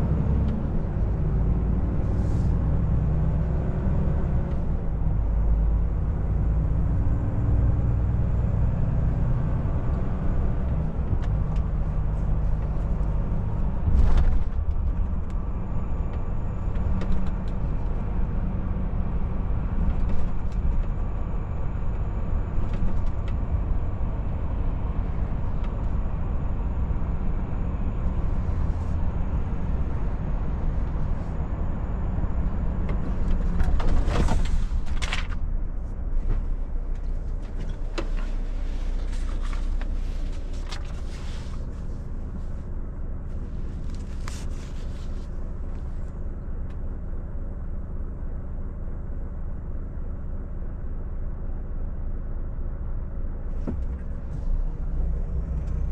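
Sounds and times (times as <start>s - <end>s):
road rumble: 0.0s - 55.9s
truck diesel engine: 0.0s - 55.9s.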